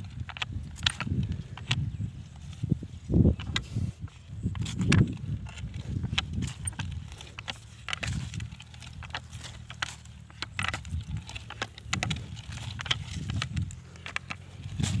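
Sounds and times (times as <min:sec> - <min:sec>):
clods clicking against metal: 0:00.0 - 0:15.0
hand weeder scraping dry soil: 0:00.0 - 0:15.0.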